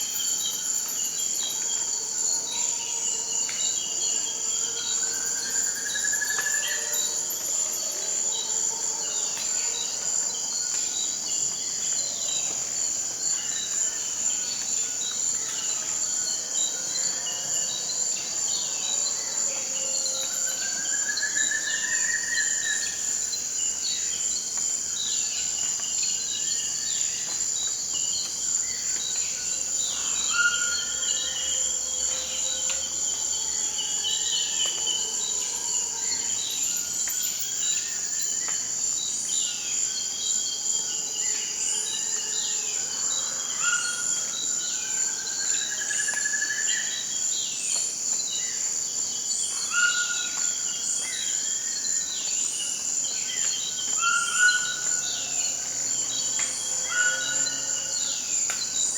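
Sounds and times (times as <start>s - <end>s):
crickets humming: 0.0s - 58.9s.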